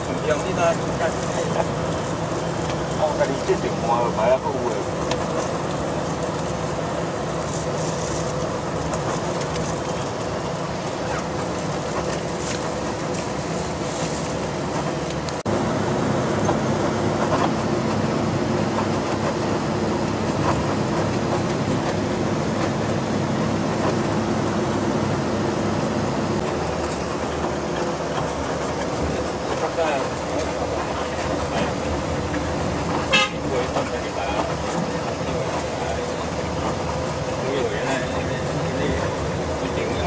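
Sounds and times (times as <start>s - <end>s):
coach engine drone: 0.0s - 40.0s
road noise: 0.0s - 40.0s.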